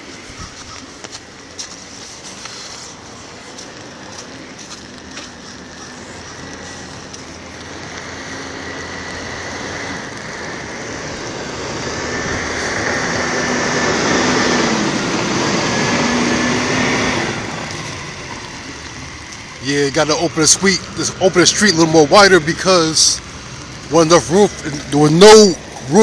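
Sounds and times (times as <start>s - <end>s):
snowplow truck engine: 0.0s - 26.0s
tyres on slushy street: 0.0s - 26.0s.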